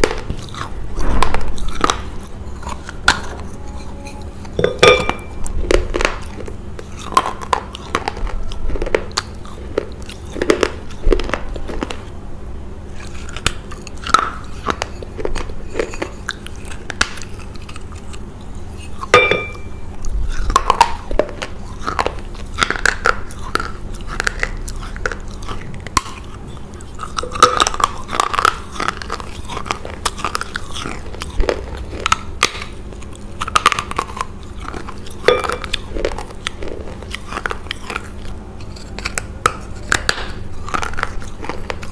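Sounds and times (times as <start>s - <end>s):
chewing crunchy clay: 0.0s - 41.9s.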